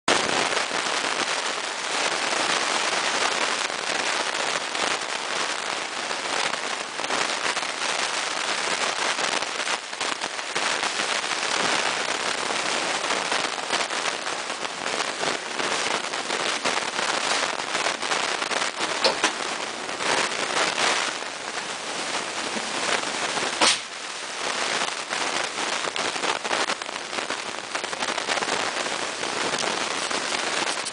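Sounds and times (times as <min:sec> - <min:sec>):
crackling microphone interference hiss: 0:00.1 - 0:30.9.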